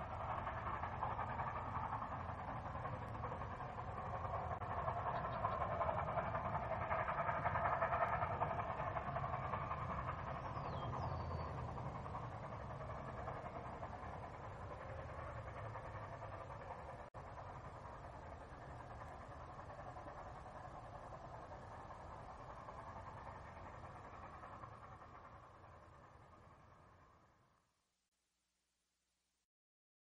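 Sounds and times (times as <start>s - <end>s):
steam train running: 0.0s - 27.7s.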